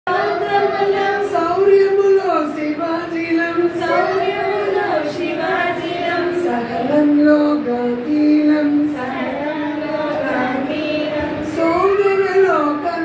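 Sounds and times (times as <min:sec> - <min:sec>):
children singing along: 0:00.1 - 0:02.1, 0:03.6 - 0:08.0, 0:08.6 - 0:13.0.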